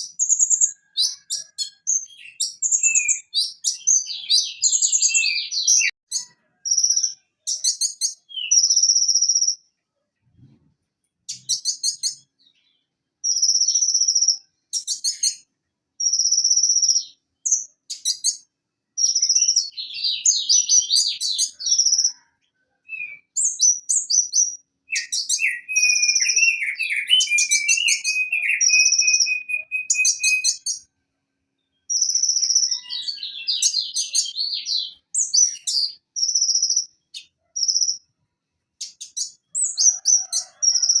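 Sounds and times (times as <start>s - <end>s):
bird singing high chirps and trills: 0.0s - 30.9s, 31.5s - 38.1s, 38.8s - 41.0s.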